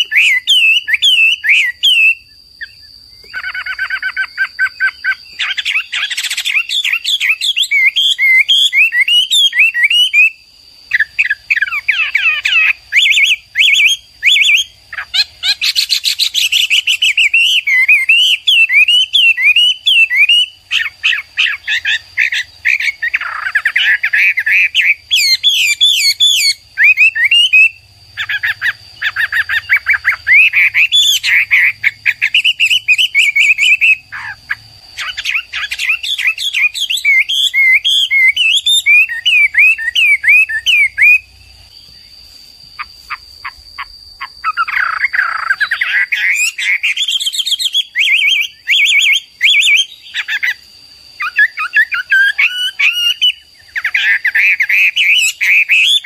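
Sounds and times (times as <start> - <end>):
bird singing whistles and trills: 0.0 - 42.1, 42.8 - 56.0.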